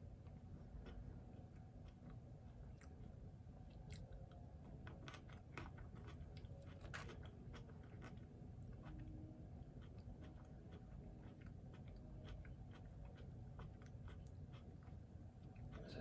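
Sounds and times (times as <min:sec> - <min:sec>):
person chewing food: 0:00.2 - 0:15.8.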